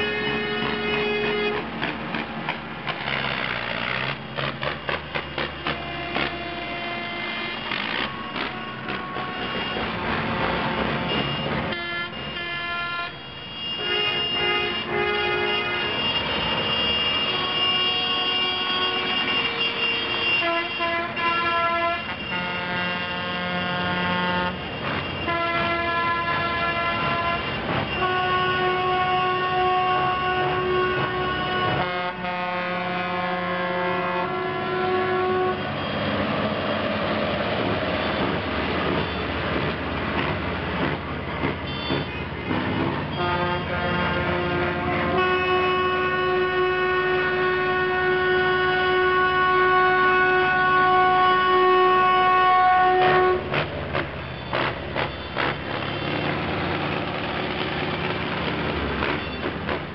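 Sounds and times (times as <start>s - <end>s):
tractor engines running: 0.0s - 12.4s, 13.2s - 45.3s, 52.9s - 59.9s
tractor horns: 0.0s - 39.5s, 41.4s - 56.6s.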